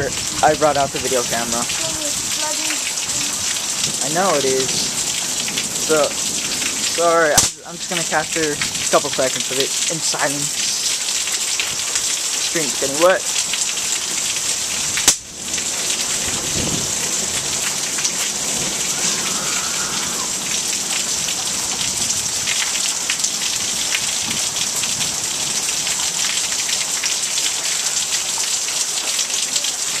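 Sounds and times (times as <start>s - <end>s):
heavy rain pouring: 0.0s - 30.0s
raindrops ticking on camera: 0.0s - 30.0s.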